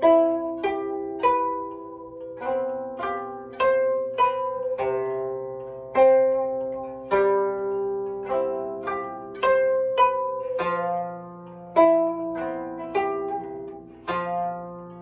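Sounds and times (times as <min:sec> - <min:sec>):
plucked zither melody: 0:00.0 - 0:15.0.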